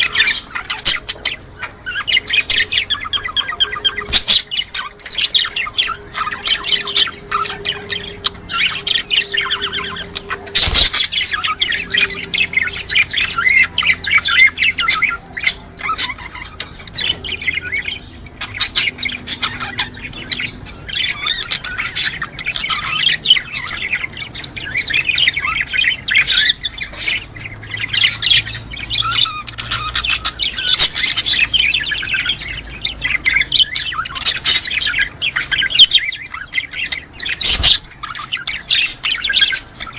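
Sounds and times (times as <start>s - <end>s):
cage birds chattering and chirping: 0.0s - 39.9s.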